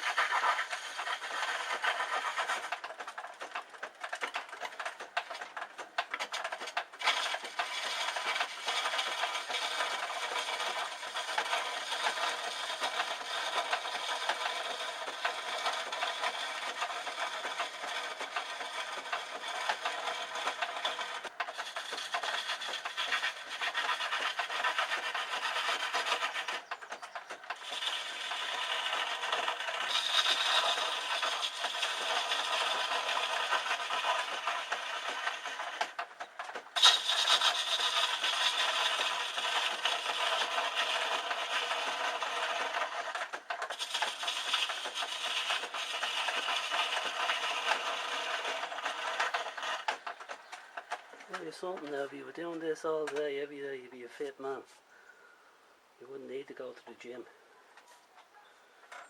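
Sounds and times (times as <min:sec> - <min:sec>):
lathe tool scraping wood: 0:00.0 - 0:54.8.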